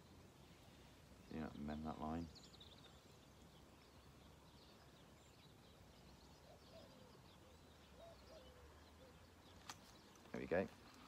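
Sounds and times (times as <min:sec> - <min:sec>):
distant birds chirping: 0:00.0 - 0:11.0.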